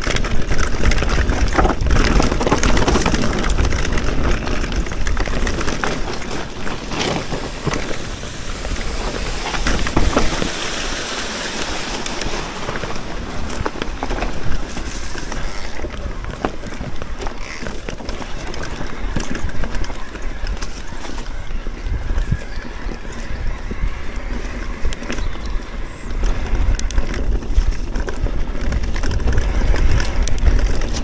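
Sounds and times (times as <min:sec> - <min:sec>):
bike rattling over bumps: 0:00.0 - 0:31.0
bike tyres rolling over stones: 0:00.0 - 0:31.0
wind rumble on microphone: 0:00.0 - 0:31.0.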